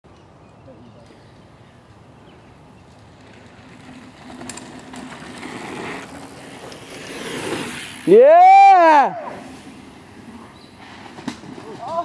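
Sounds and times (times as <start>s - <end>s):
bike tyres on dirt: 1.1s - 12.0s.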